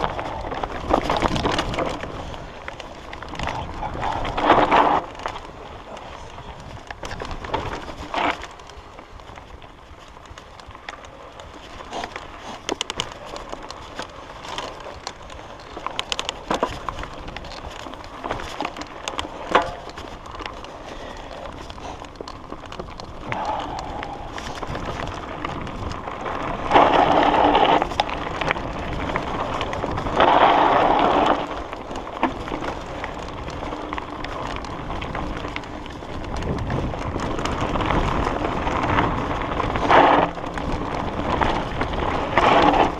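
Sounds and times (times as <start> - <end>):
bike clattering and rattling: 0.0 - 42.9
bike tyres crunching over dirt: 0.0 - 42.9.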